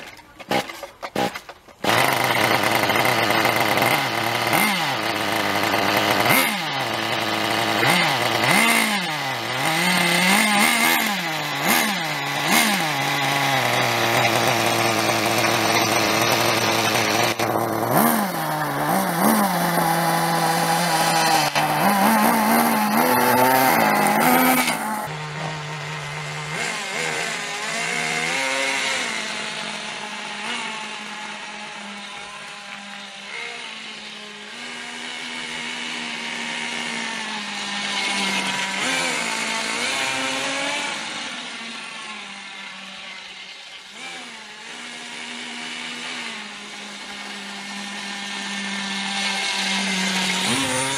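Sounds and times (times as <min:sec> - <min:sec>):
rc truck engine revving and idling: 0:00.0 - 0:50.9.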